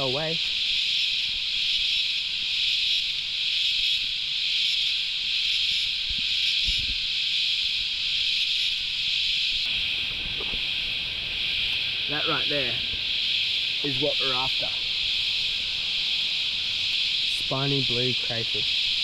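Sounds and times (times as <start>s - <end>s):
cicada chorus: 0.0s - 19.0s.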